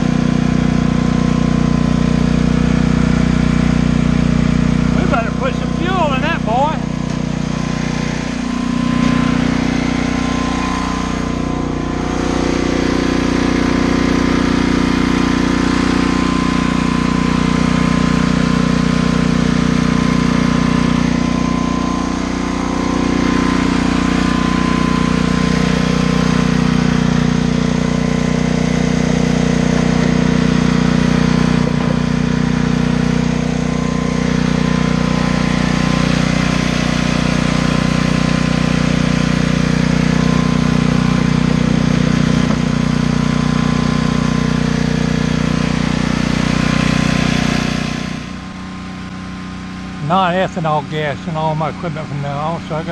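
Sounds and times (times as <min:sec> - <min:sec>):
generator engine running: 0:00.0 - 0:52.9.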